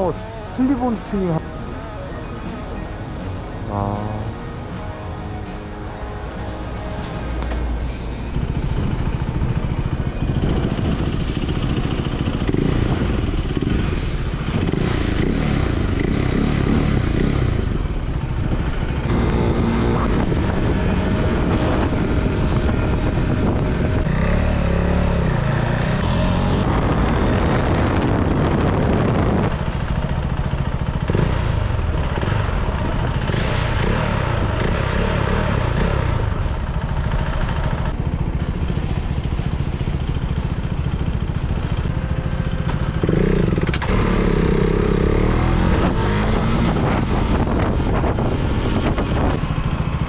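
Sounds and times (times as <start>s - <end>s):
motorcycle engine running: 6.8s - 50.0s.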